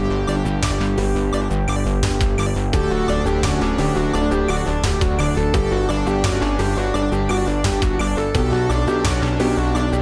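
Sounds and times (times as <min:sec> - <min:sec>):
background music with regular beat: 0:00.0 - 0:10.0.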